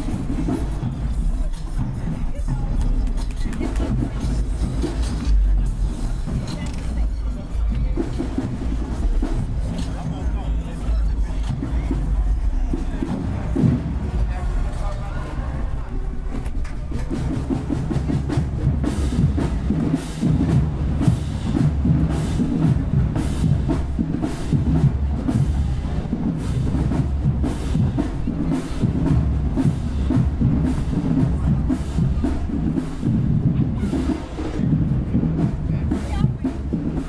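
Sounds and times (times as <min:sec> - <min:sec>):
bass drums: 0:00.0 - 0:37.0
marching drumline cadence: 0:00.0 - 0:37.0.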